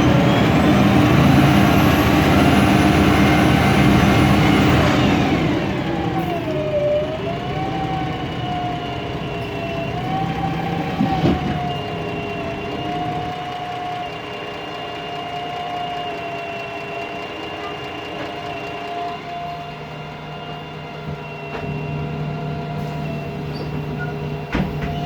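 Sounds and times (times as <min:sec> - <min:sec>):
bus engine pulling hard: 0:00.0 - 0:25.0.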